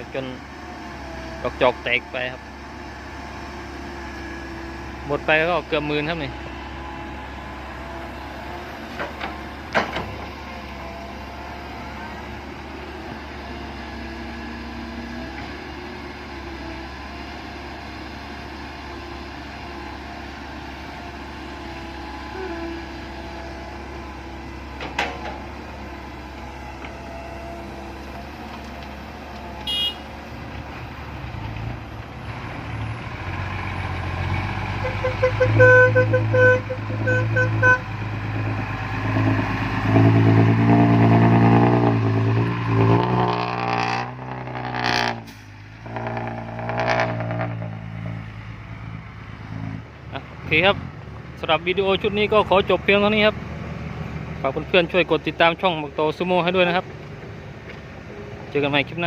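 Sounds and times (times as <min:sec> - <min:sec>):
truck engine revving: 0:00.0 - 0:57.9.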